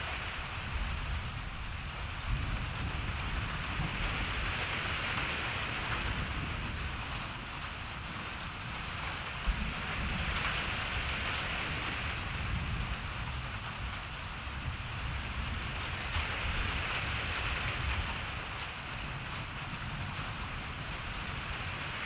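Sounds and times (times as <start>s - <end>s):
continuous low rumble: 0.0s - 22.0s
steady rain hiss: 0.0s - 22.0s.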